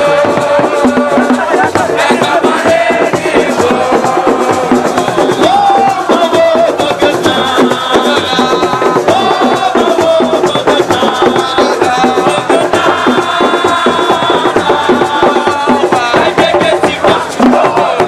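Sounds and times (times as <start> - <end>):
fast dense drumming: 0.0 - 18.0.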